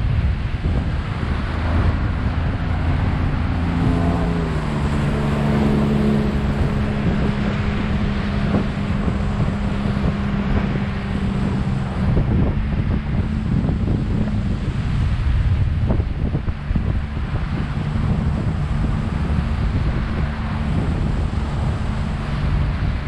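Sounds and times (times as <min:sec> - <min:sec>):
boat motor running: 0:00.0 - 0:23.0
hull slapping waves: 0:00.0 - 0:23.0
wind buffeting microphone: 0:00.0 - 0:23.0.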